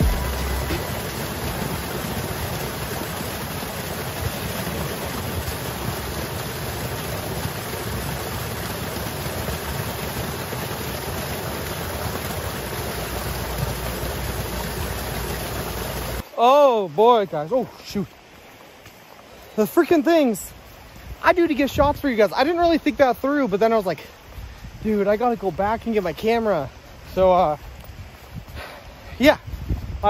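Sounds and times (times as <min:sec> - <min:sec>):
stream of water splashing: 0:00.0 - 0:30.0.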